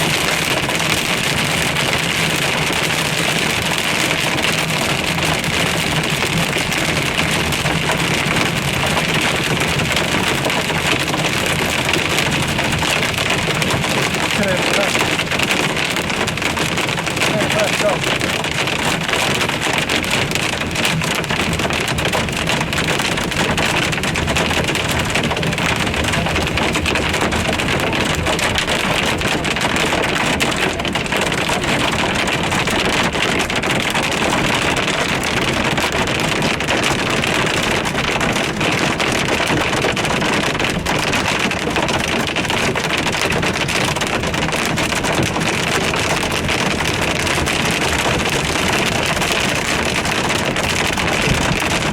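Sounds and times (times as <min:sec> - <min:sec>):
hail drumming on car roof: 0:00.0 - 0:51.9.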